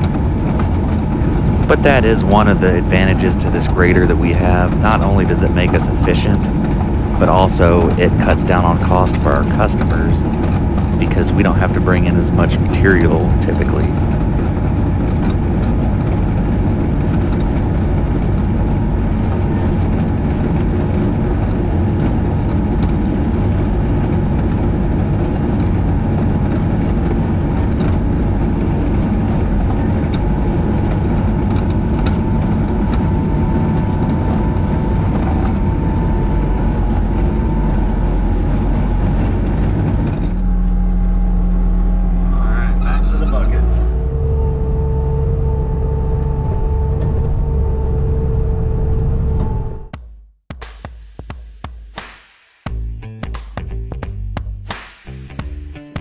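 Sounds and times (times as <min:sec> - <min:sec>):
faint steady whine: 0:01.0 - 0:49.7.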